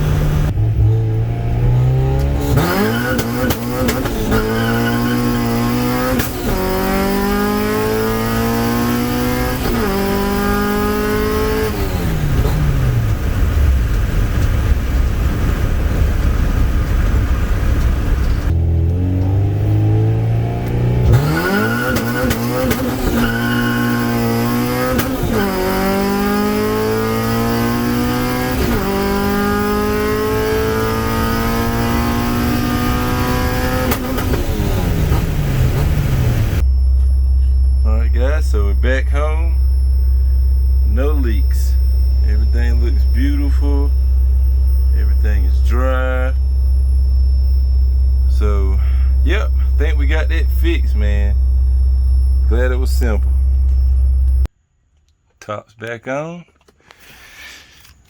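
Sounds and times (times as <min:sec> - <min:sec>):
car engine revving through gears: 0:00.0 - 0:54.5.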